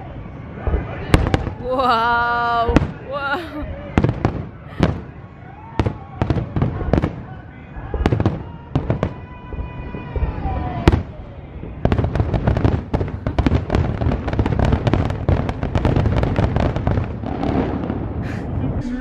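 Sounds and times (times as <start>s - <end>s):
fireworks bangs: 0.0s - 19.0s
fireworks booms and crackles: 0.0s - 19.0s.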